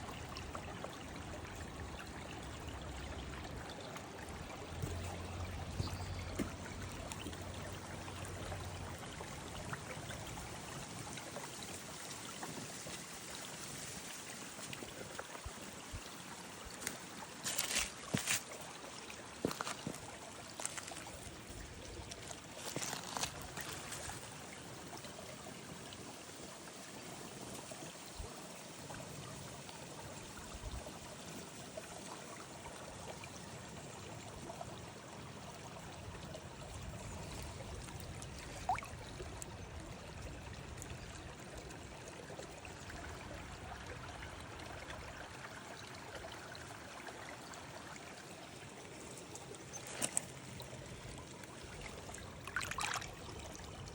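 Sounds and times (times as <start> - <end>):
creek water trickling over stones: 0.0 - 53.9.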